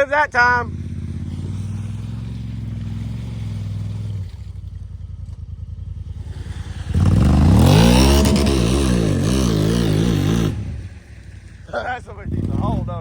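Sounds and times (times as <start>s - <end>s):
vehicle engine revving: 0.0s - 4.8s, 5.7s - 13.0s.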